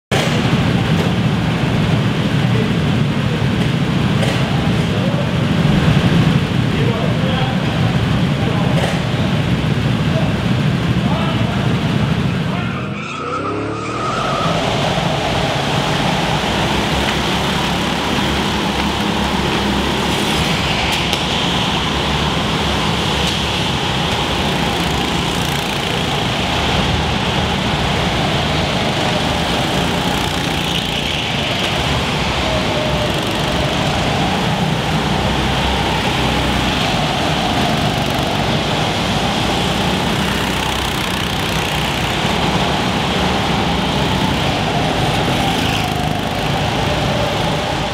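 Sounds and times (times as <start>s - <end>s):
go-kart engines droning: 0.1s - 47.9s.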